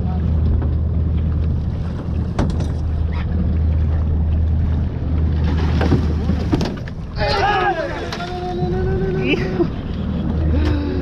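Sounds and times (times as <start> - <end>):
boat engine humming: 0.0 - 11.0
wind and water noise: 0.0 - 11.0.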